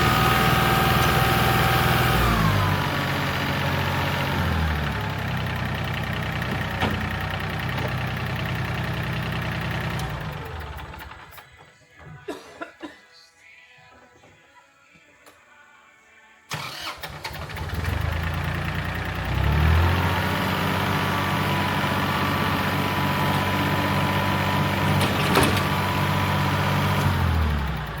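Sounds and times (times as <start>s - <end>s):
tractor engine running: 0.0s - 11.6s, 16.6s - 28.0s.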